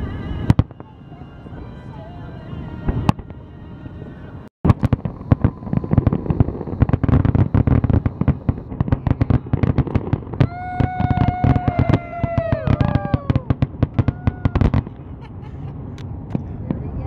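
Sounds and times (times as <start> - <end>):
fireworks bangs and crackles: 0.0 - 3.6, 4.6 - 17.0
long steady pitched tones: 0.0 - 17.0.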